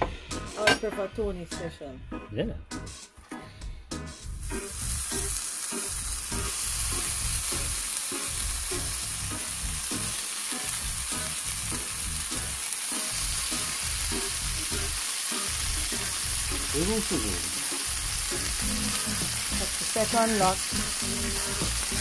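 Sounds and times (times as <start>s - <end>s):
meat sizzling in grill pan: 4.3s - 22.0s.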